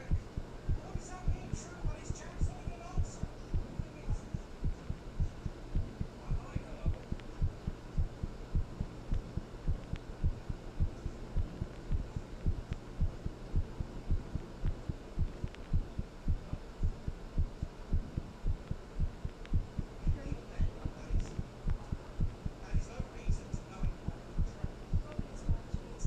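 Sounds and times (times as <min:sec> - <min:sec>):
heartbeat thumps: 0:00.0 - 0:25.8
faint low hum: 0:00.0 - 0:26.0.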